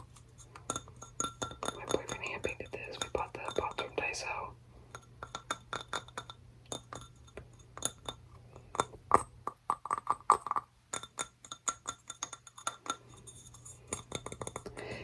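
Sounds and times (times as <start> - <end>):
fingernails tapping on pots: 0.0 - 3.8, 5.0 - 15.0.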